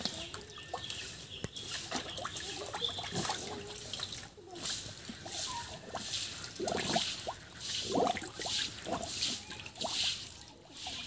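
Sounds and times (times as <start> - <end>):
calf slurping water: 0.0 - 11.0.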